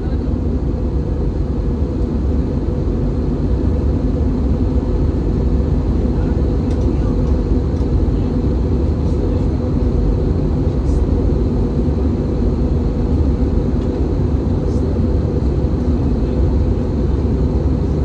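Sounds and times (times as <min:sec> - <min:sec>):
airplane cabin roar: 0:00.0 - 0:18.0.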